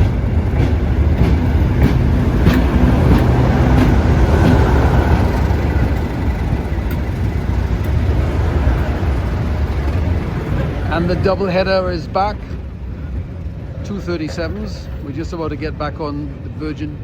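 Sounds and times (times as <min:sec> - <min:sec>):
steam train rumbling: 0:00.0 - 0:17.0.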